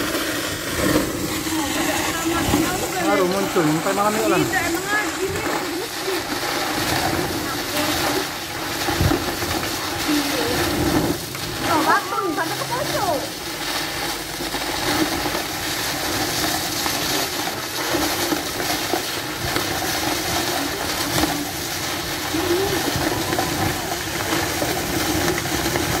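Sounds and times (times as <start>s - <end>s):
mud eruption rushing hiss: 0.0s - 26.0s.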